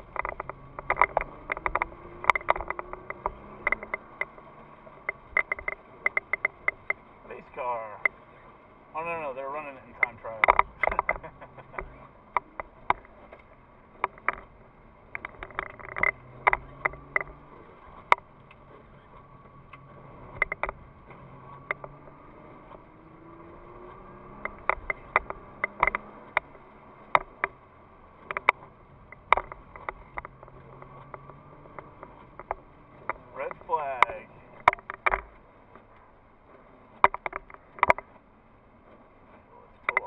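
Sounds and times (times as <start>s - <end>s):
sharp clicks and ticks: 0.0s - 40.0s.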